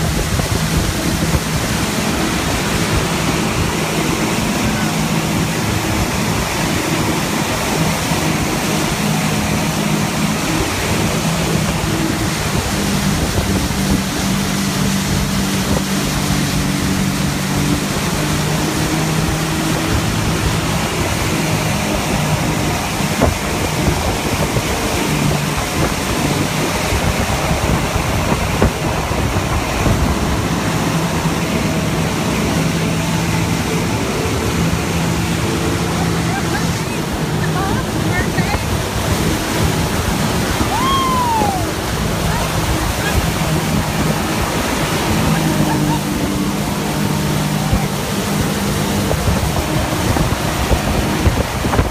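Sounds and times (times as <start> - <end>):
churning wake rushing: 0.0 - 51.9
motorboat engine hum: 0.0 - 51.9
wind on microphone: 0.0 - 51.9.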